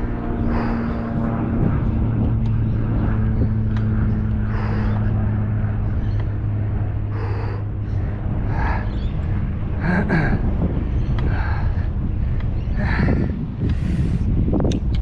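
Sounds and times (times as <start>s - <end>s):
passing traffic engine hum: 0.0s - 15.0s
road and wind noise: 0.0s - 15.0s.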